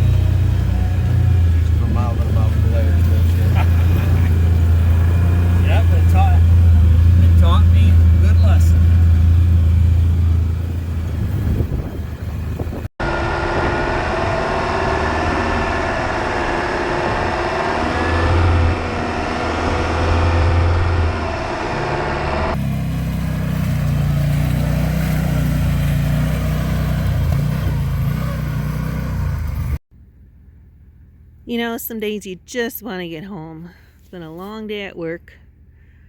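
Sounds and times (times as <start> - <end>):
utility vehicle engine running: 0.0 - 29.8.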